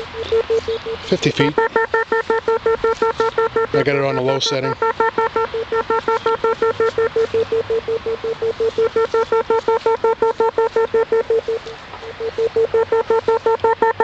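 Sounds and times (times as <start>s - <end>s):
cable locator rapid beeping: 0.1s - 11.6s, 12.2s - 14.0s.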